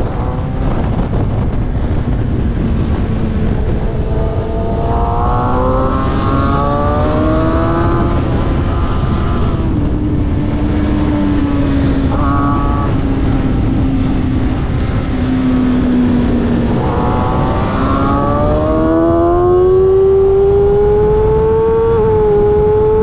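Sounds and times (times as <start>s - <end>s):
motorcycle engine at high revs: 0.0s - 23.0s
wind rush on microphone: 0.0s - 23.0s.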